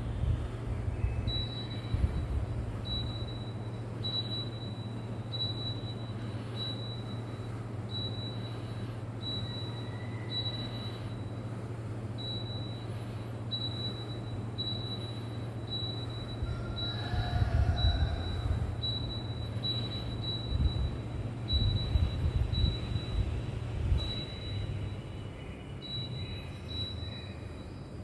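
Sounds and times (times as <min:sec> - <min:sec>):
air conditioner humming: 0:00.0 - 0:28.0.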